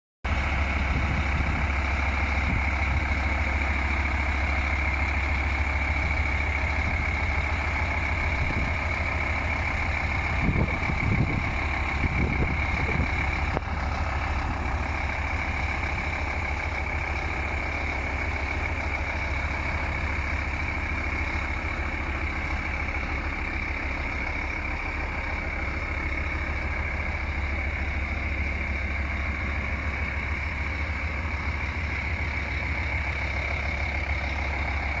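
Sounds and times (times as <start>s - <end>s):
diesel truck engine idling: 0.2s - 35.0s.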